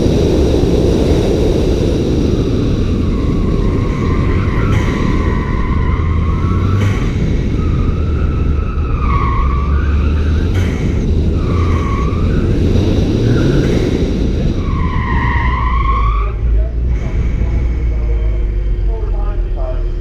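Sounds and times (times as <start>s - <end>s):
car engine running hard: 0.0s - 20.0s
tyres squealing: 3.0s - 19.9s.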